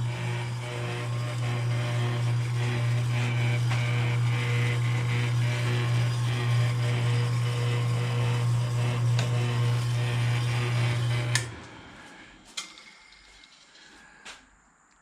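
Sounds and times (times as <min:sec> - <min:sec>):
electric motor humming: 0:00.0 - 0:12.1.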